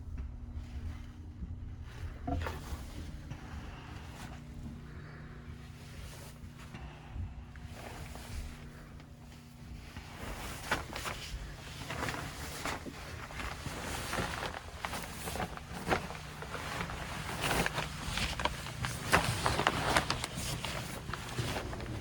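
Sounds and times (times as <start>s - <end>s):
equipment low hum: 0.0s - 22.0s.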